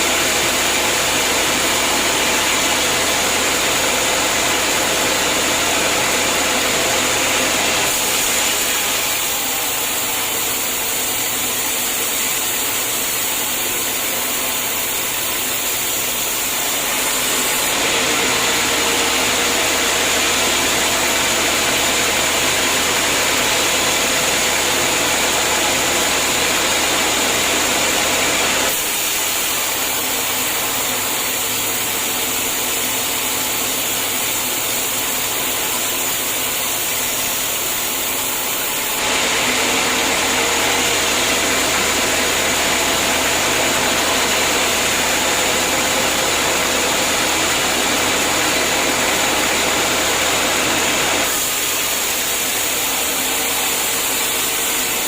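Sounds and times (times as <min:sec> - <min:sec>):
sawmill sawing a log: 0:00.0 - 0:55.0.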